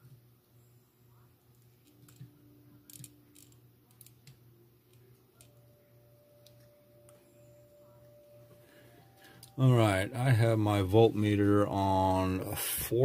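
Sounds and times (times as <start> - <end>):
faint steady whine: 0.0 - 13.0
low steady hum: 0.0 - 13.0.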